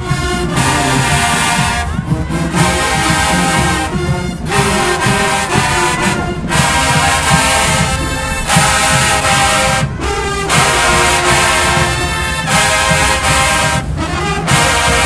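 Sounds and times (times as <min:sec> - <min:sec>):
brass band playing held chords: 0:00.0 - 0:15.0.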